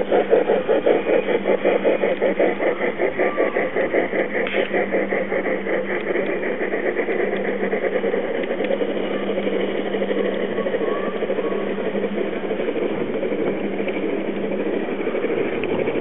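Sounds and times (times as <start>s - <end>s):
constant low hum: 0.0s - 16.0s
model train whirring and clatter: 0.0s - 16.0s.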